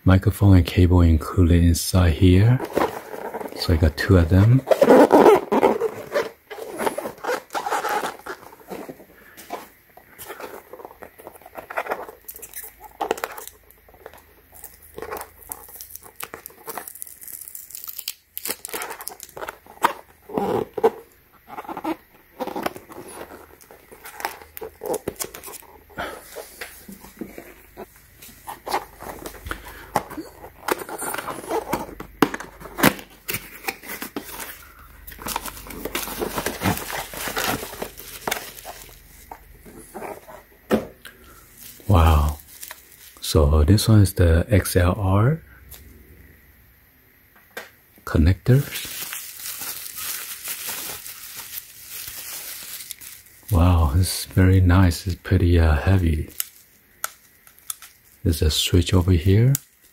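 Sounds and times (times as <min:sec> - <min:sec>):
packaging crinkling and rustling: 0:02.2 - 0:43.3, 0:48.5 - 0:54.4, 0:55.9 - 0:59.9.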